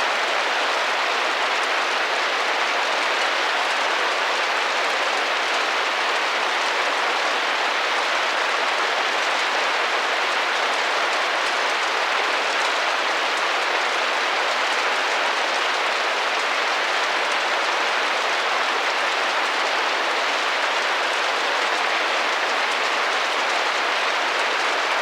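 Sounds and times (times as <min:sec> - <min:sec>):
rain on a window: 0:00.0 - 0:25.0.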